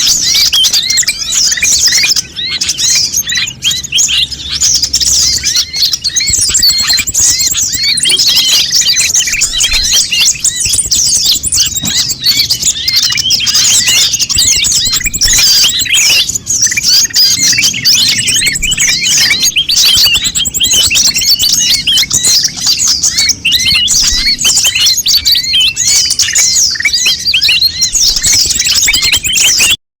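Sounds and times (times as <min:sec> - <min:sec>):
many birds chirping: 0:00.0 - 0:29.8.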